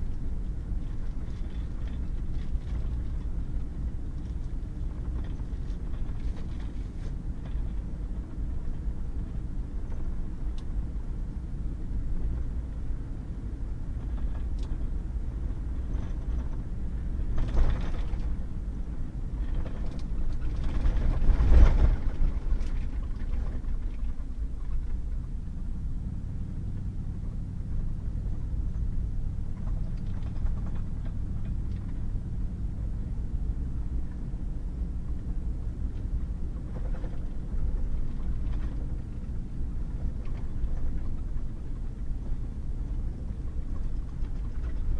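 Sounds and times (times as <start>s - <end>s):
truck tyre and engine rumble: 0.0s - 44.9s.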